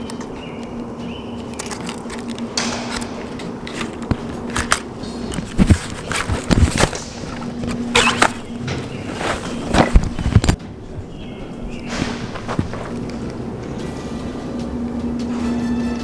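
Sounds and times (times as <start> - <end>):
footsteps crunching over debris: 0.2 - 16.0.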